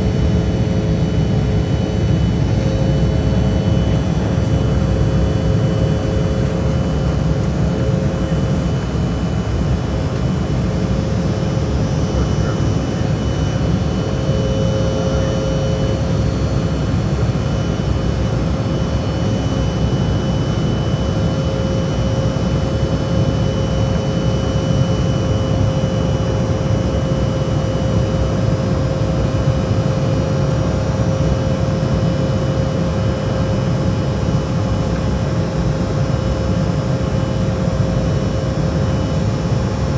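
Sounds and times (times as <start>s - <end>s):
faint steady engine whine: 0.0s - 39.9s
jet engines droning in cabin: 0.0s - 39.9s.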